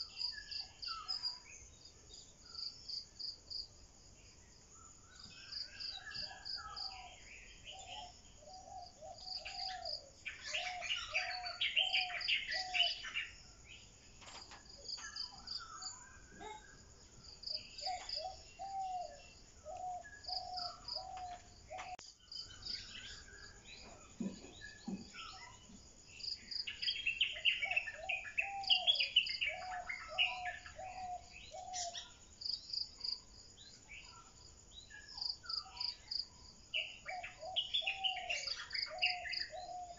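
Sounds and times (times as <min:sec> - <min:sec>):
birds singing: 0:00.0 - 0:39.9
crickets chirping: 0:00.0 - 0:39.9.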